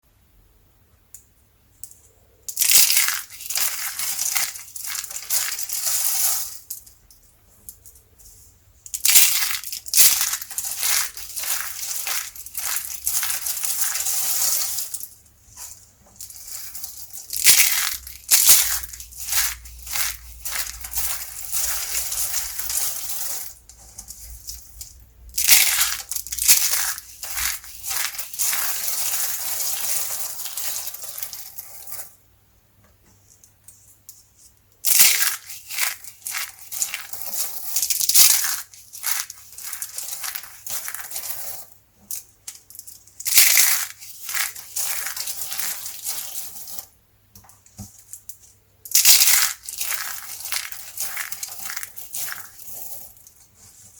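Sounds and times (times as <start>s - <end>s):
soap crunching and crackling: 2.5s - 7.0s, 8.9s - 32.1s, 34.8s - 46.9s, 47.9s - 53.9s.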